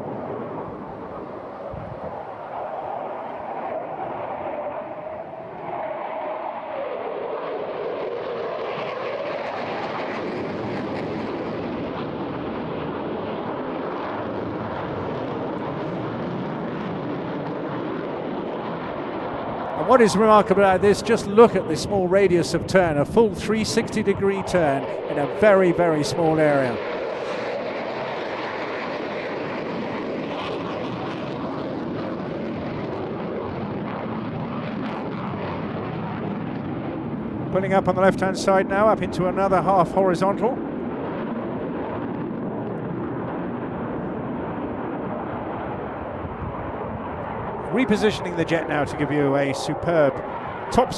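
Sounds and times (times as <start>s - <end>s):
jet roar passing: 0.0s - 50.9s.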